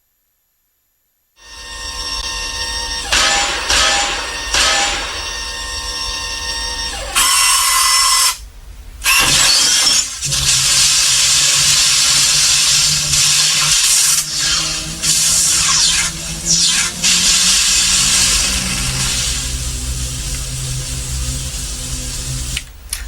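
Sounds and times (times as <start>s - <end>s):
steady electronic tones: 1.4s - 8.5s, 9.1s - 22.7s
low hum: 1.4s - 22.8s
harsh hiss bursts: 2.4s - 8.4s, 9.0s - 22.7s.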